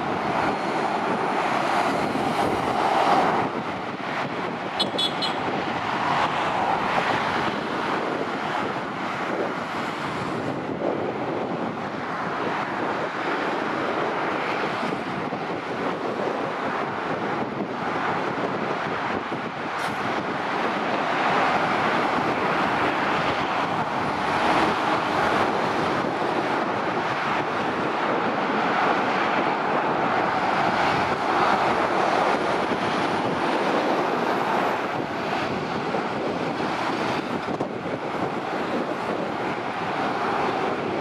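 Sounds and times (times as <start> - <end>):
heavy motorway traffic: 0.0 - 41.0.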